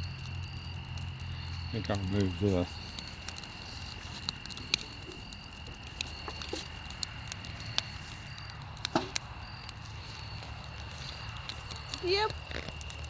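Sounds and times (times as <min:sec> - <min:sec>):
campfire crackling: 0:00.0 - 0:13.0
fire pops: 0:00.0 - 0:13.0
insects trilling: 0:00.0 - 0:13.0.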